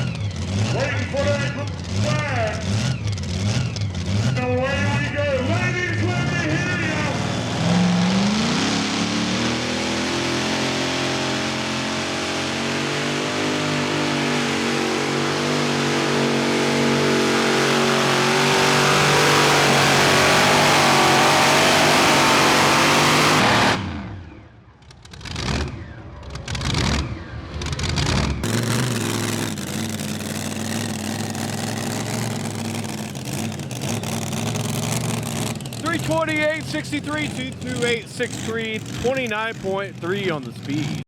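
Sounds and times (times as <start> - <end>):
tractor engine at full throttle: 0.0 - 41.0.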